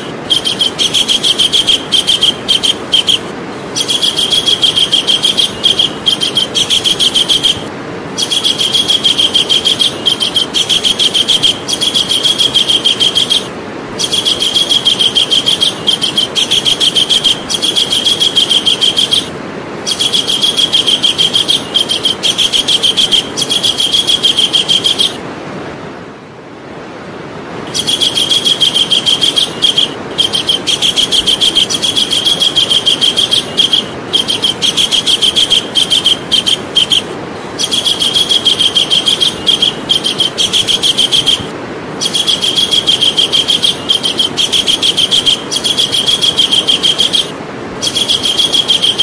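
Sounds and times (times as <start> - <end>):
kingfisher calling: 0.0 - 25.2, 27.7 - 49.0
background hiss: 0.0 - 49.0.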